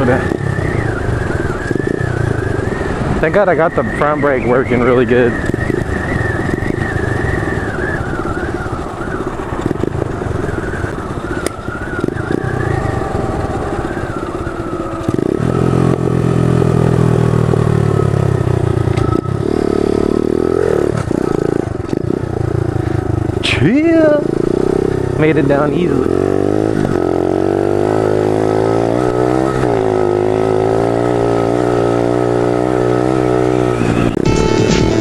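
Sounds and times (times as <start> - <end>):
small motorcycle engine: 0.0 - 34.3
wind and road noise: 0.0 - 34.3.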